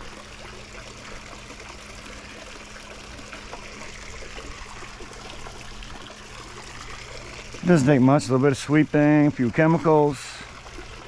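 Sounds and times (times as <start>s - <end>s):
faint steady hum: 0.0s - 11.0s
pool water trickling: 0.0s - 11.0s.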